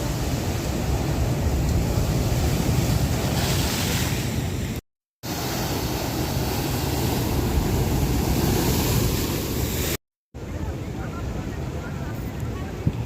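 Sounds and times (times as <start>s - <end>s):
ocean surf breaking on shore: 0.0s - 12.8s.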